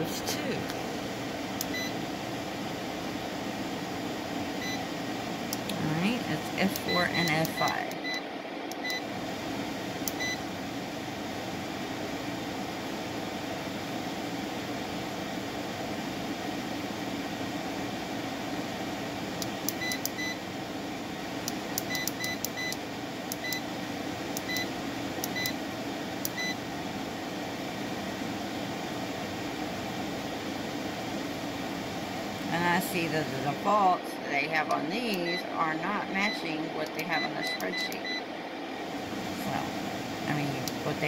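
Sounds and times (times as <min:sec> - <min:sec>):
chiller humming: 0:00.0 - 0:41.0.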